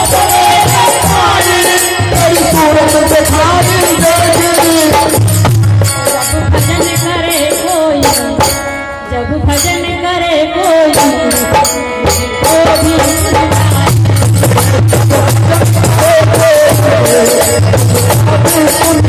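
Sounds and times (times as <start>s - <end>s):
hand drum beats: 0.0s - 8.7s, 10.6s - 19.0s
jingling rattling percussion: 0.0s - 8.8s, 10.6s - 19.0s.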